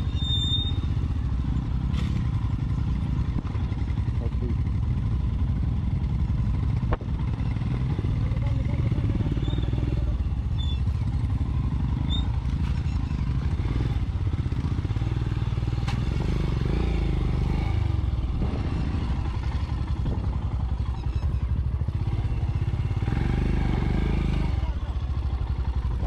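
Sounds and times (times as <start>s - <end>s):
motorcycle engine running: 0.0s - 26.0s
motorcycle rattling over rough ground: 0.0s - 26.0s.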